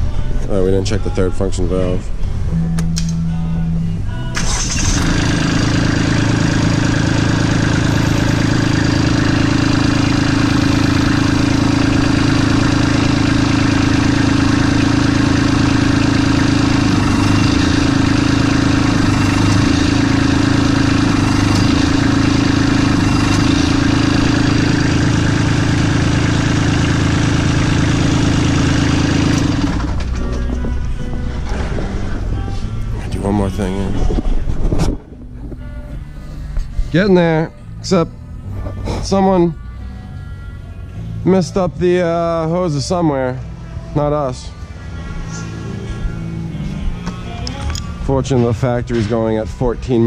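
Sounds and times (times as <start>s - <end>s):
tractor diesel engine droning: 0.0s - 50.0s.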